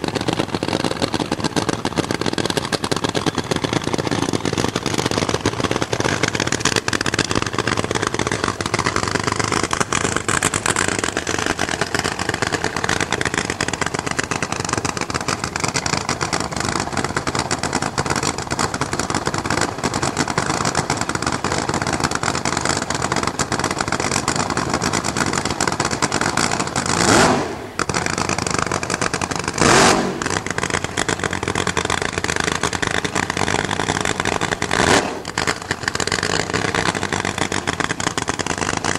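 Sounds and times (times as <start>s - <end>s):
drag racing engine clattering: 0.0s - 38.9s
engine blasts: 0.0s - 38.9s.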